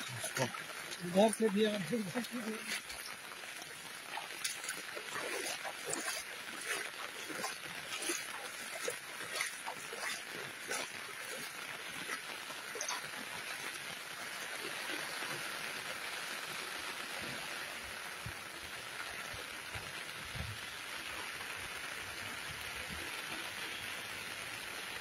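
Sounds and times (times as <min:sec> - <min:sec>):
heavy rain on wet pavement: 0:00.0 - 0:25.0.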